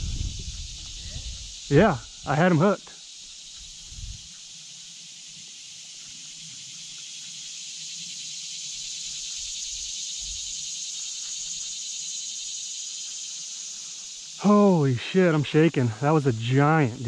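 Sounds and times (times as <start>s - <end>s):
insects buzzing drone: 0.0s - 17.0s.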